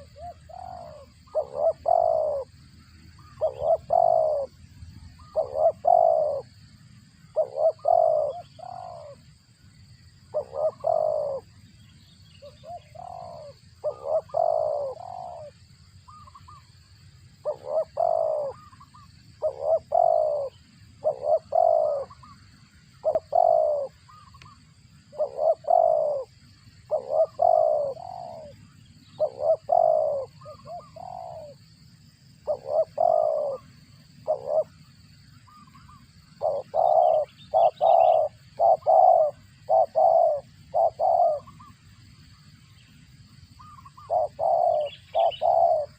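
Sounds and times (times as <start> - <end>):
dove cooing: 0.0 - 6.6, 7.2 - 9.2, 10.3 - 11.6, 12.4 - 16.7, 17.4 - 31.6, 32.4 - 41.9, 43.6 - 45.9.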